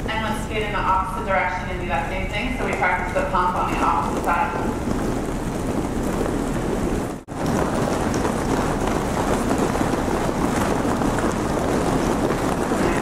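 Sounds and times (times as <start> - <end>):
roller skates rolling on hard floor: 0.0 - 13.0.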